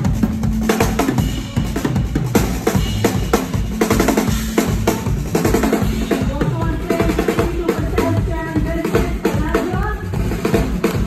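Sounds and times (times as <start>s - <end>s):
drum kit steady beat: 0.0s - 11.0s
live band music: 0.0s - 11.0s.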